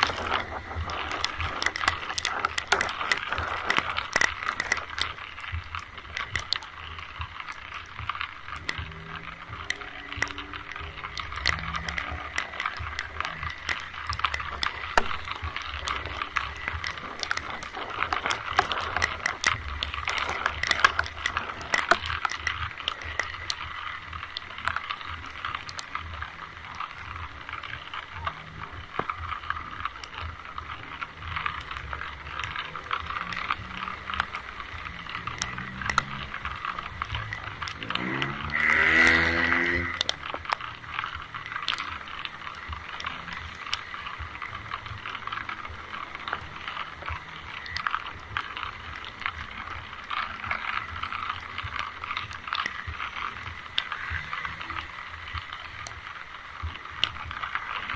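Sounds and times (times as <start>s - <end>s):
low rumble: 0.0s - 57.9s
steady rain: 0.0s - 57.9s.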